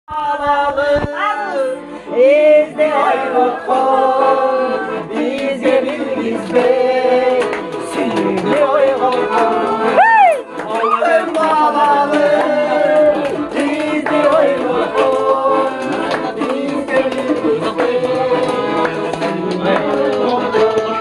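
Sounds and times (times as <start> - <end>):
accordion playing chords: 0.2 - 21.0.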